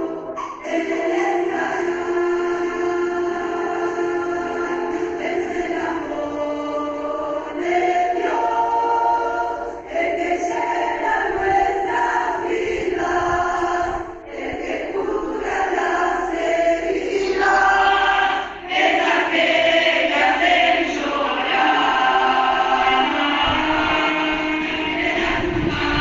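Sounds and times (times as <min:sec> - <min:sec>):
group singing praise song: 0:00.0 - 0:26.0.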